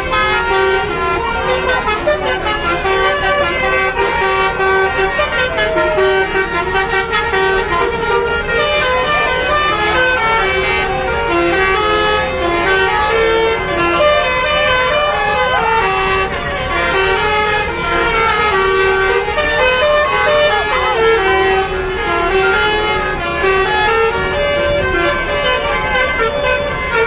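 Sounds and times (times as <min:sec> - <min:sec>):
bus horns playing melodies: 0:00.0 - 0:27.0.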